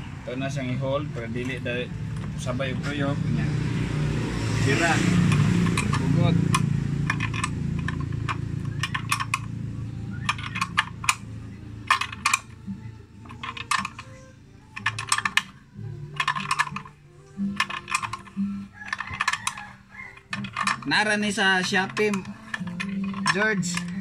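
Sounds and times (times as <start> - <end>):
ratcheting wrench clicking: 4.7 - 24.0.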